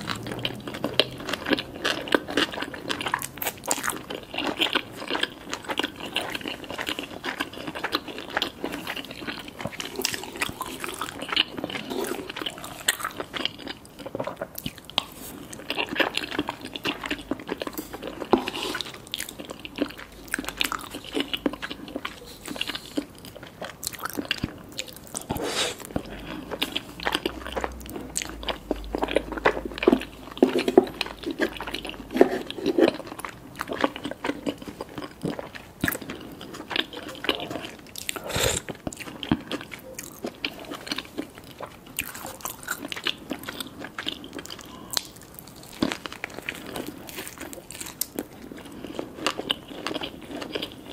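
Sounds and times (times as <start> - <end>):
crunchy biting and chewing: 0.0 - 50.9.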